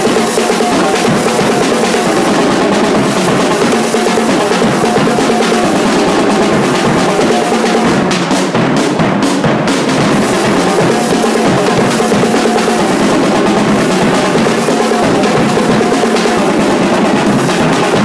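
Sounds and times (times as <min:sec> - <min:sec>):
drum line playing cadence: 0:00.0 - 0:18.0.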